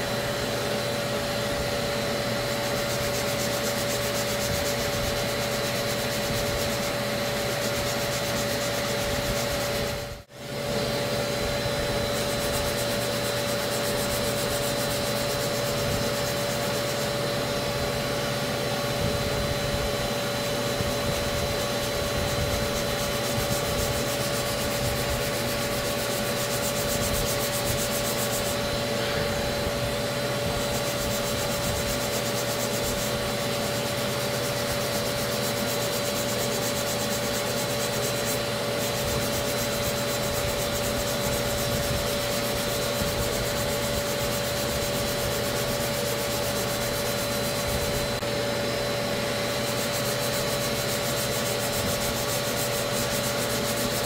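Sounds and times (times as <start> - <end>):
steady hum: 0.0 - 54.0
sanding block rubbing: 2.1 - 10.2, 11.8 - 17.5, 20.0 - 29.2, 29.9 - 48.2, 49.5 - 54.0.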